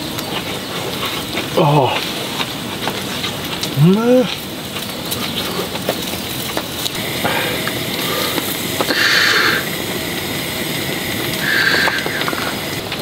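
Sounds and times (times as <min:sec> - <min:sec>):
meat sizzling on a grill: 0:00.0 - 0:13.0
rain pattering on a tent: 0:00.0 - 0:13.0.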